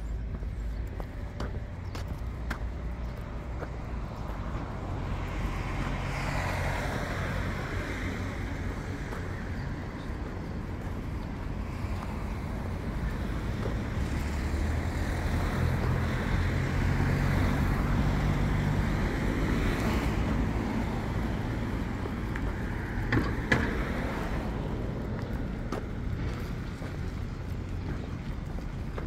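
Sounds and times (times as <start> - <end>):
traffic rumble: 0.0 - 29.0
vehicle engine hum passing: 0.0 - 29.0.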